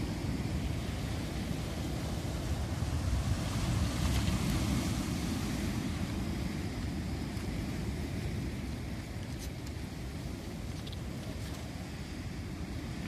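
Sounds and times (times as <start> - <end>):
waves washing over pebbles: 0.0 - 13.0
wind on microphone: 0.0 - 13.0.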